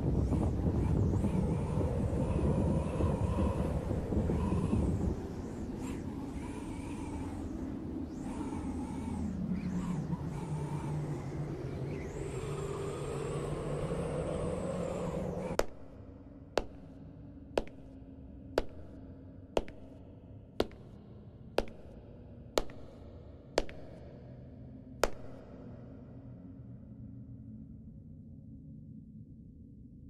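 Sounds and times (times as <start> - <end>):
steady drone: 0.0 - 28.6.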